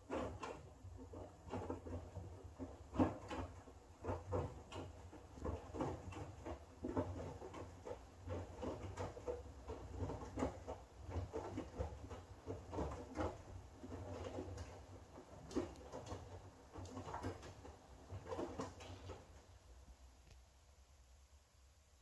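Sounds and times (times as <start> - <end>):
washing machine motor hum: 0.0 - 20.2.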